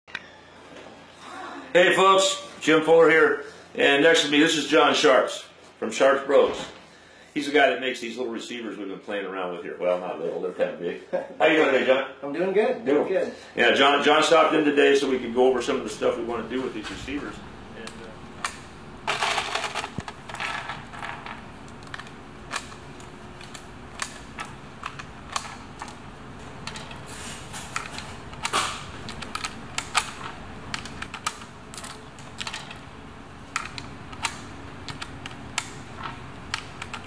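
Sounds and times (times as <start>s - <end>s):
low workshop hum: 0.1s - 37.0s.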